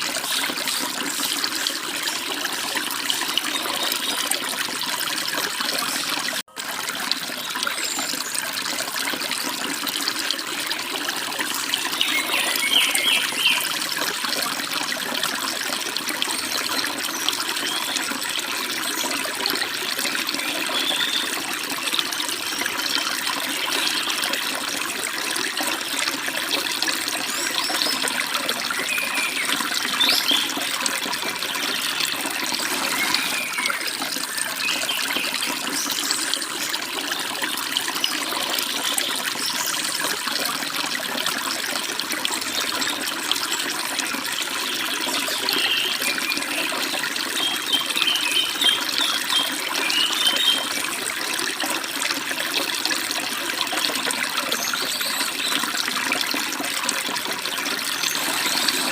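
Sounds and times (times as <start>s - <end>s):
babbling stream: 0.0s - 58.9s.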